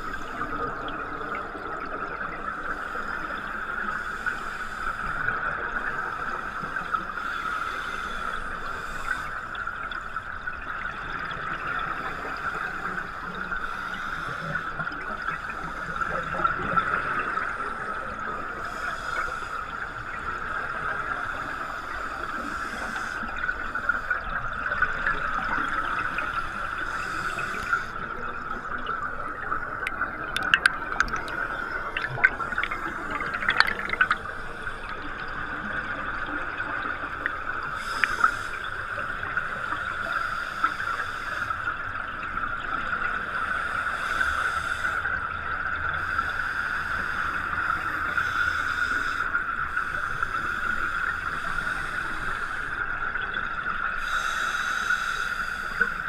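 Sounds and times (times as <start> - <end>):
muffled underwater hiss: 0.0 - 56.0
scuba exhaust bubbles: 0.0 - 56.0.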